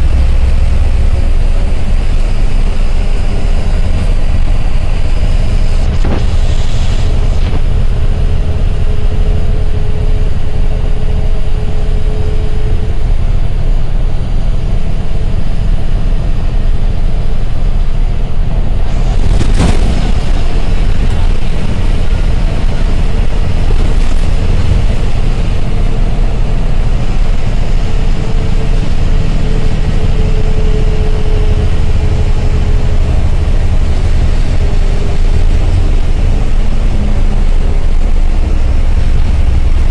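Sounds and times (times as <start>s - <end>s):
bus engine droning: 0.0s - 39.9s
faint whine: 0.0s - 39.9s
road noise: 0.0s - 39.9s.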